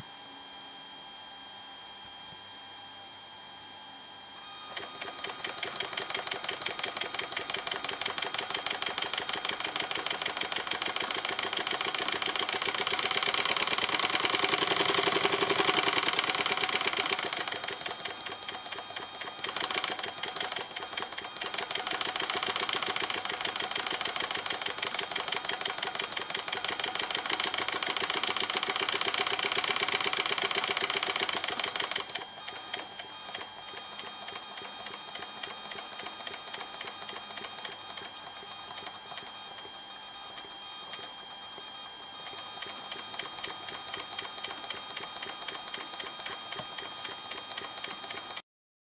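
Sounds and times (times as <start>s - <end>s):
electric motor mechanical clatter: 4.4s - 48.4s.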